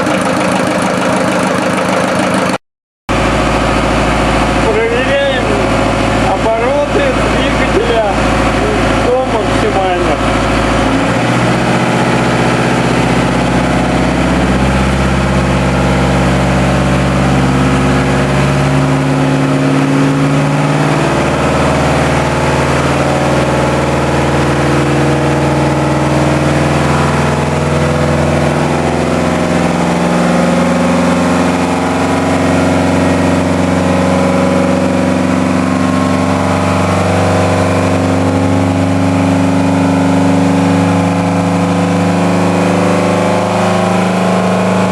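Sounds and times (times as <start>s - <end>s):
marine diesel engine running: 0.0s - 44.9s.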